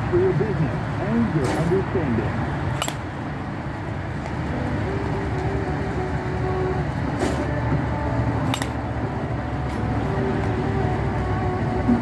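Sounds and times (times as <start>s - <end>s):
steady low rumble and hum: 0.0s - 12.0s.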